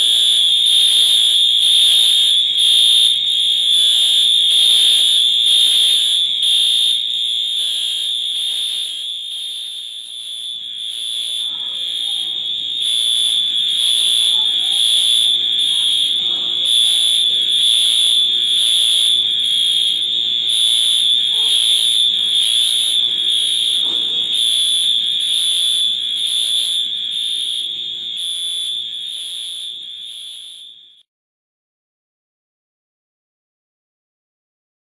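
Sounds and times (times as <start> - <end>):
high-pitched fire alarm tone: 0.0 - 31.1.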